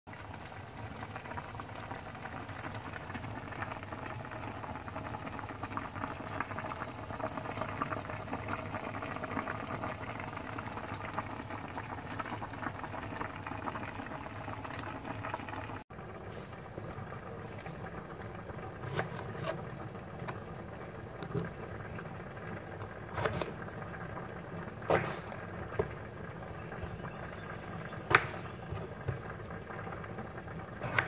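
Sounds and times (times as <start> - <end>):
broth boiling in a pan: 0.1 - 31.0.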